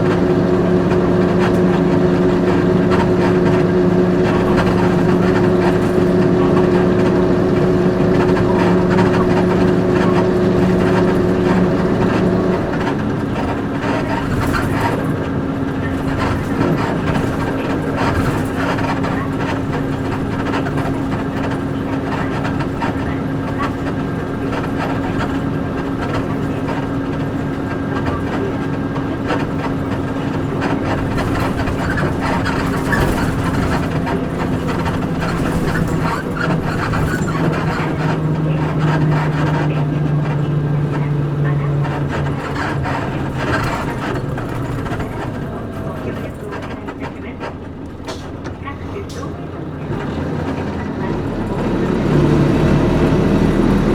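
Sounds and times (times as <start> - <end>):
bus diesel engine hum: 0.0 - 53.9.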